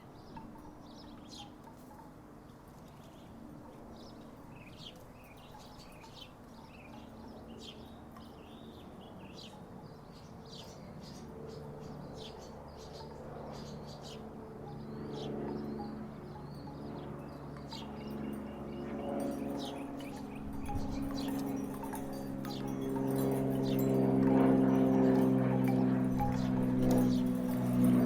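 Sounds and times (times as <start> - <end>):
low steady hum: 0.0 - 28.0
small birds chirping: 0.0 - 28.0.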